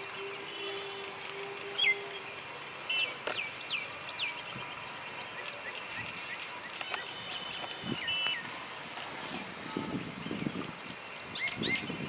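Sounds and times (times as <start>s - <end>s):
birds whistling and ticking: 0.0s - 12.0s
steady outdoor hiss: 0.0s - 12.0s.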